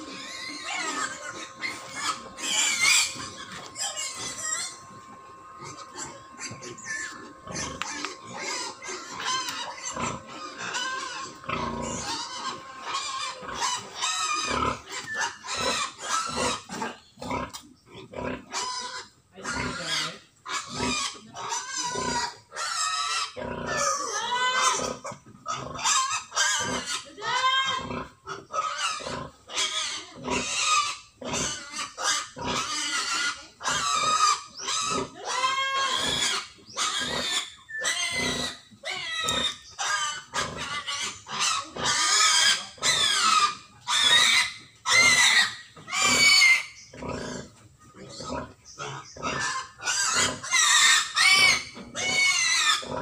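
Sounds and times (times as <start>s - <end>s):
pig squealing and grunting: 0.0s - 53.0s.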